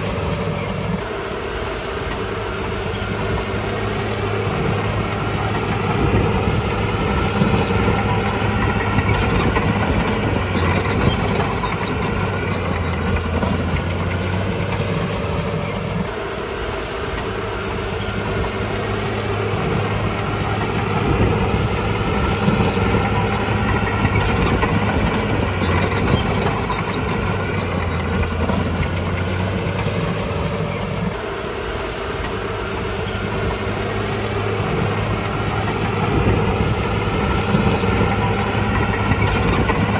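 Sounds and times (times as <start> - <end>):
diesel engine of heavy machinery: 0.0 - 39.9.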